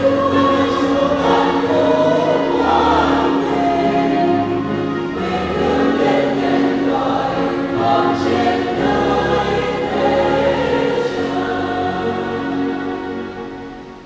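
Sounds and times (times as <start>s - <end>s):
mixed choir singing a hymn: 0.0s - 14.0s.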